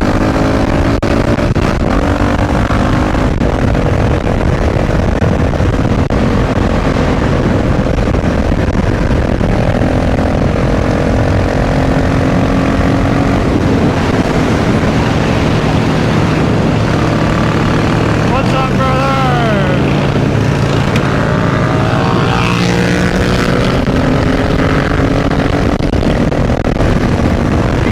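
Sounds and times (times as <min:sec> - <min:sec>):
motorcycle engine running: 0:00.0 - 0:27.9
wind noise: 0:00.0 - 0:27.9.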